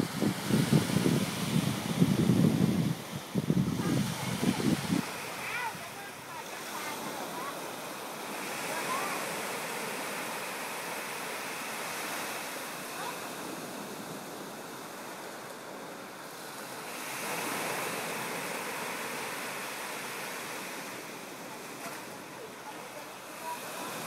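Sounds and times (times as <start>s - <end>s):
small waves breaking on sand: 0.0s - 24.0s.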